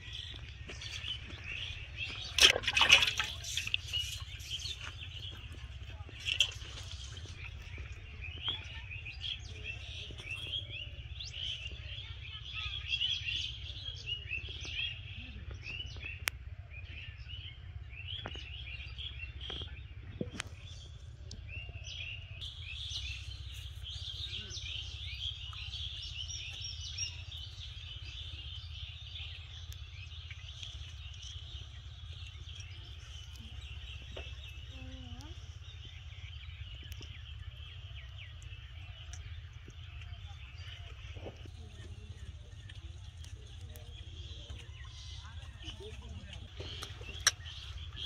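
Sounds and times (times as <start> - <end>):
low steady rumble: 0.0 - 48.0
small birds chirping: 0.0 - 48.0.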